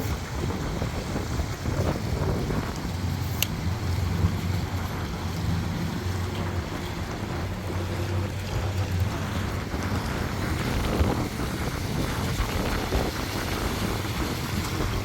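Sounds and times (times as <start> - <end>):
engine idling: 0.0 - 15.0
wind gusting on microphone: 0.0 - 15.0.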